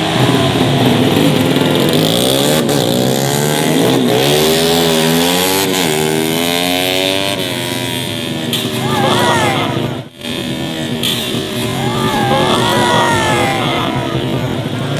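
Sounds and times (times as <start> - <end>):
racing motorcycles passing: 0.0 - 14.9.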